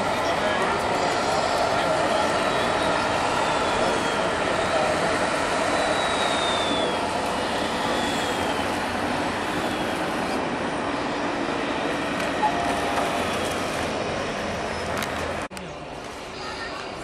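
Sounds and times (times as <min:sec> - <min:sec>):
model trucks running: 0:00.0 - 0:16.2
faint whine gliding down: 0:00.2 - 0:15.1.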